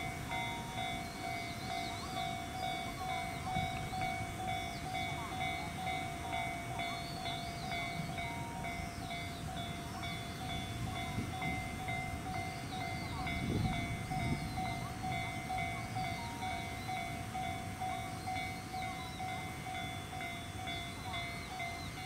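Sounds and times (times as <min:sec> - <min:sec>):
train rumble: 0:00.0 - 0:22.0
birds chirping: 0:00.3 - 0:22.0.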